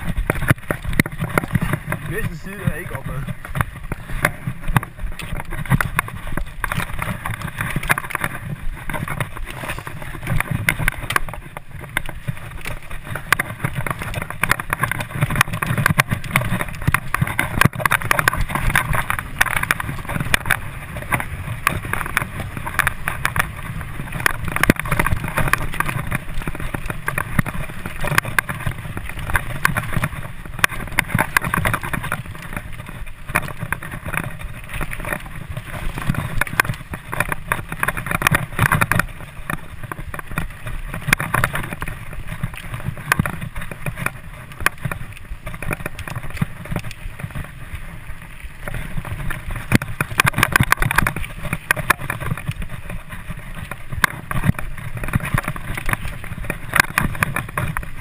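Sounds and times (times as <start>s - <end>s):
bike rattles and knocks: 0.0s - 58.0s
bike tyres rumbling on dirt: 0.0s - 58.0s.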